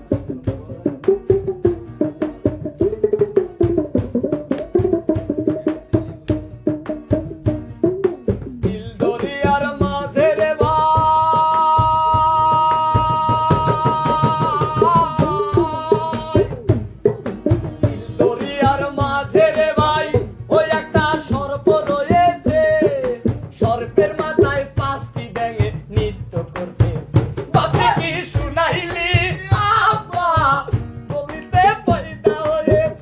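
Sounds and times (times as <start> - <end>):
hand drum rhythm: 0.0 - 33.0.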